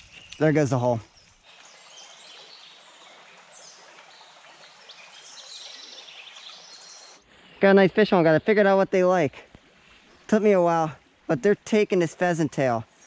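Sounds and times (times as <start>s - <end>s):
songbirds chirping: 0.0s - 13.0s
stream water rushing: 0.0s - 13.0s.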